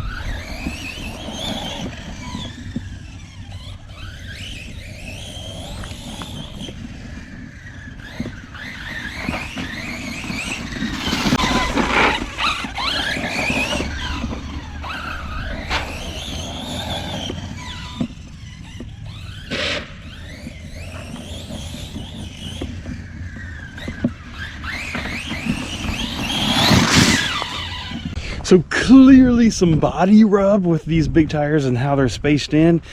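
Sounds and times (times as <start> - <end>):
rc truck motor whining: 0.0 - 29.4.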